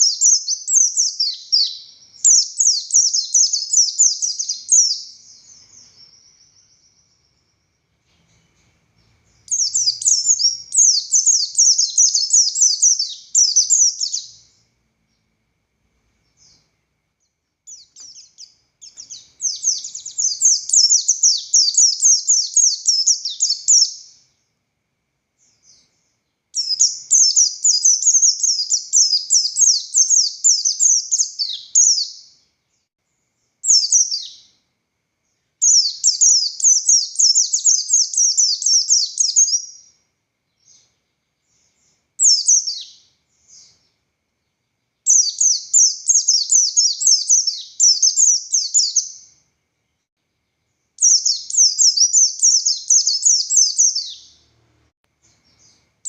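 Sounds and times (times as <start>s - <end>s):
bird twittering song: 0.0s - 15.4s, 16.1s - 24.6s, 25.4s - 34.6s, 35.2s - 54.6s, 55.2s - 56.0s.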